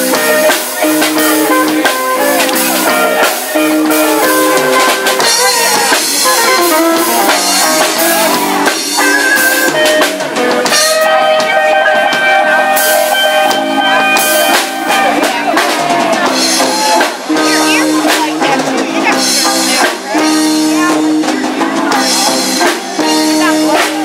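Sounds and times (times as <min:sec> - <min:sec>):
electric bass: 0:00.0 - 0:24.0
electric guitar lead notes: 0:00.0 - 0:24.0
steady drum beat: 0:00.0 - 0:24.0.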